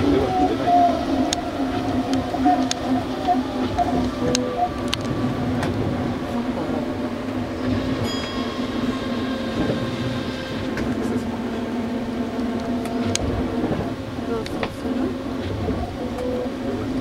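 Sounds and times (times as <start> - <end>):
monorail car hum: 0.0 - 17.0.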